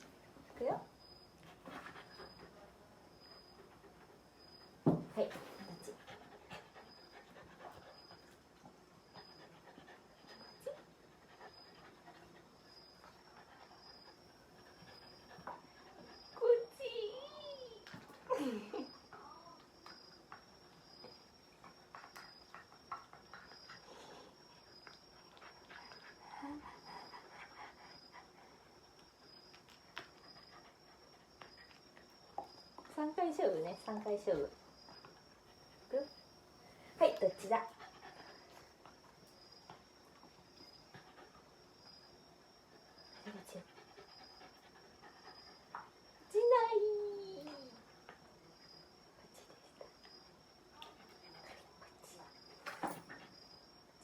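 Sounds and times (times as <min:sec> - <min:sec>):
dog panting faintly: 0:00.0 - 0:18.2, 0:19.1 - 0:54.0.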